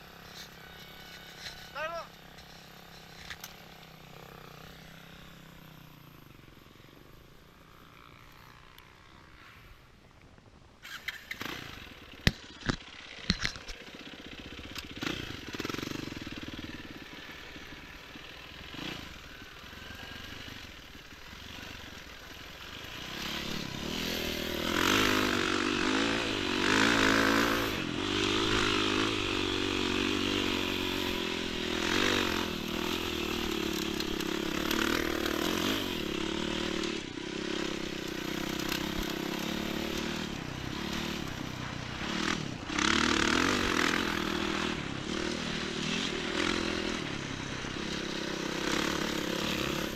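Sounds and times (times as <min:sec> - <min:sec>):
motorcycle engine revving: 0:00.0 - 0:10.0, 0:10.8 - 0:49.9.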